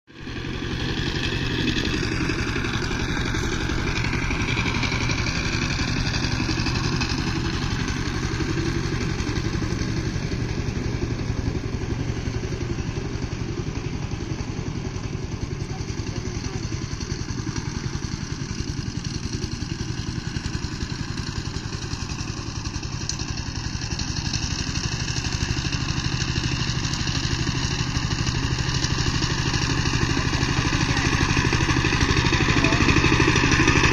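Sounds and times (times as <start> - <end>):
diesel engine running under load: 0.1 - 33.9
rotary blades tilling dry soil: 0.1 - 33.9.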